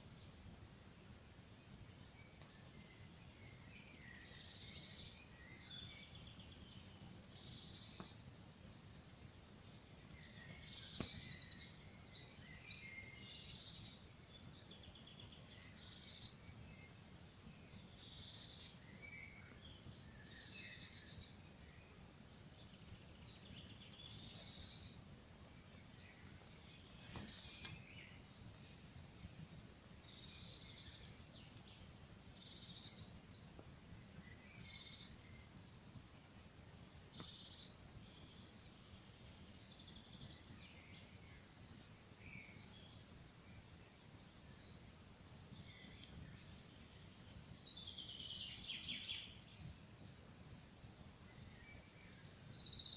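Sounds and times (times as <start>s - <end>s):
songbirds singing and chirping: 0.0s - 52.9s.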